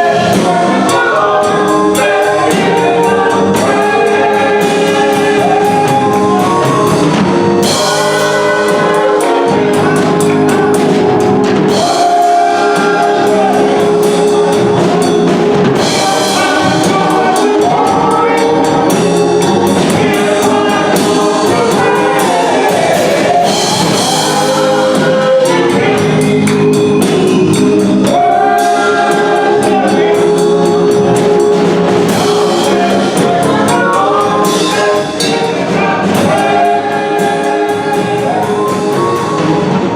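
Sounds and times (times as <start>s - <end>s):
choir singing gospel music: 0.0s - 39.9s.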